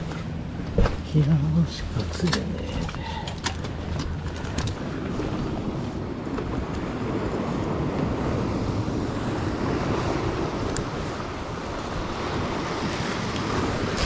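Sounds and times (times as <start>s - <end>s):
waves washing against rocks: 0.0s - 14.0s
wind on microphone: 2.4s - 14.0s.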